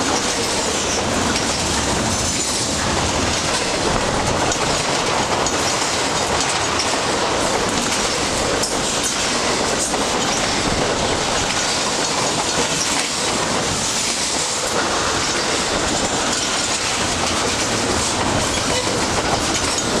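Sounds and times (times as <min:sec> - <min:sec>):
steel wheels on rails: 0:00.0 - 0:20.0.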